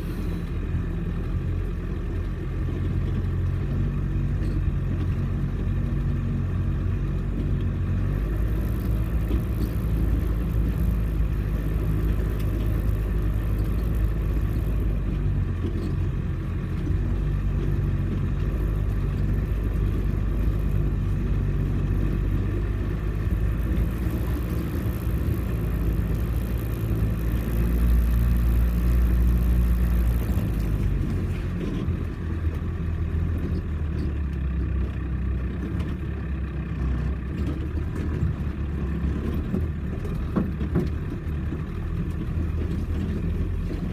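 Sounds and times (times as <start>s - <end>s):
engine running under load: 0.0s - 43.9s.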